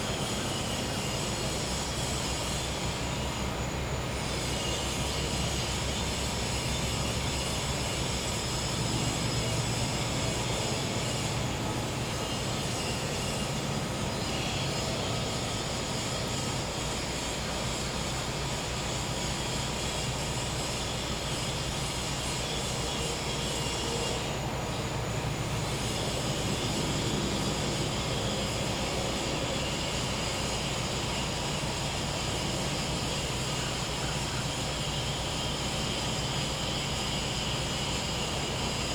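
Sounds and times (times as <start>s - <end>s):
crickets and cicadas chorus: 0.0s - 38.9s.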